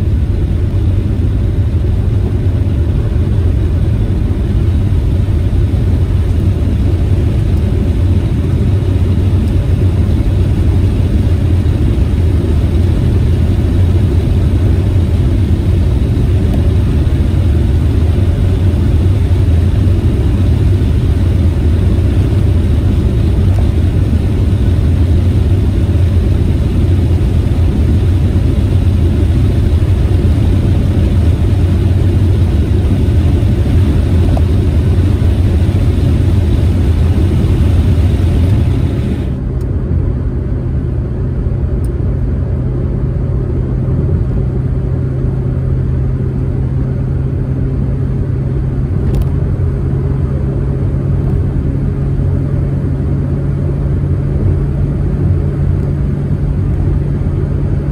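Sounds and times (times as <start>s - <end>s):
low engine drone: 0.0s - 57.9s
road and wind noise: 0.0s - 57.9s.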